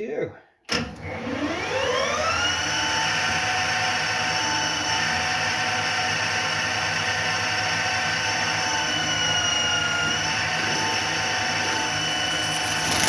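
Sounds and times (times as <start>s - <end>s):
lathe spindle whine: 1.0s - 13.0s.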